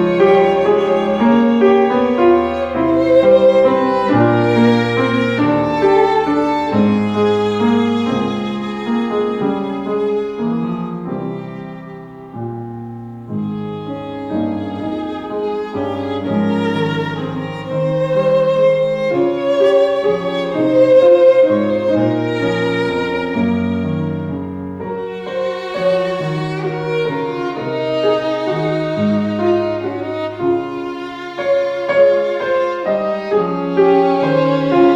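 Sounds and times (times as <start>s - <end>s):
piano: 0.0s - 34.9s
violin melody: 0.0s - 34.9s.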